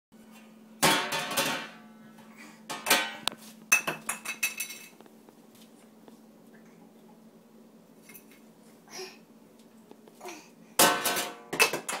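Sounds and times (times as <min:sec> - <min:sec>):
faint steady hum: 0:00.2 - 0:12.0.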